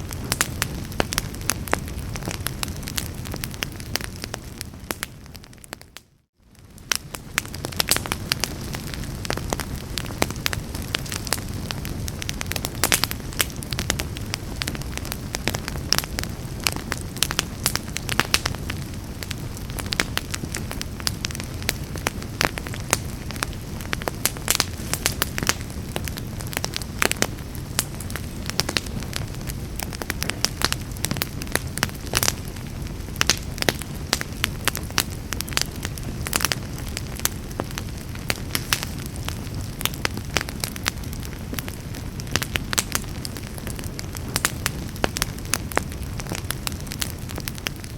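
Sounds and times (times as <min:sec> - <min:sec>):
fire crackling and popping: 0:00.0 - 0:47.9
low rumble of flames: 0:00.0 - 0:47.9.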